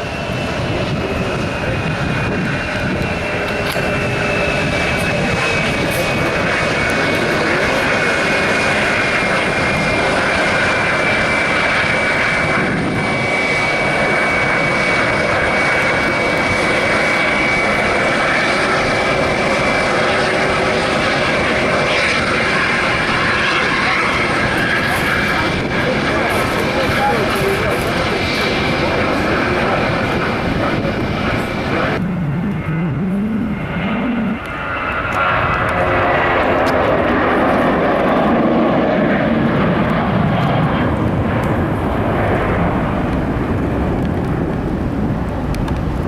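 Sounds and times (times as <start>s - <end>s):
jet engines whining: 0.0s - 46.0s.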